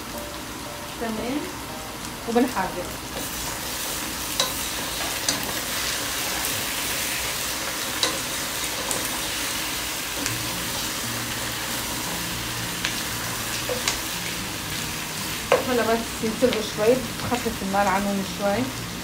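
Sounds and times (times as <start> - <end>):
chicken and onions sizzling: 0.0 - 19.0.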